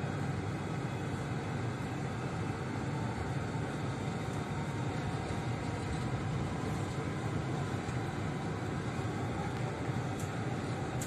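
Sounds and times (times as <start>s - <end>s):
low rumble inside train: 0.0s - 11.0s.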